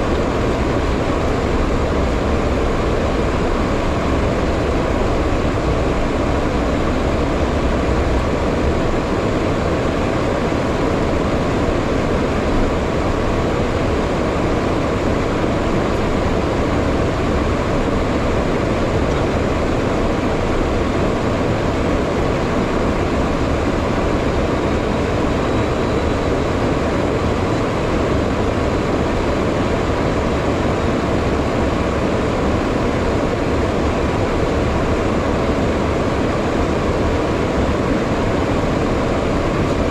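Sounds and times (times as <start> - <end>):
faint steady whine: 0.0 - 39.9
jet engine drone: 0.0 - 39.9
rushing airflow: 0.0 - 39.9.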